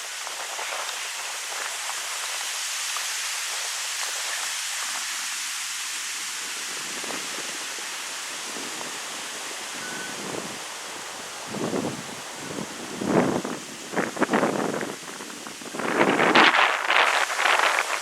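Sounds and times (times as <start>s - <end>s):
wind rushing through leaves: 0.0s - 18.0s.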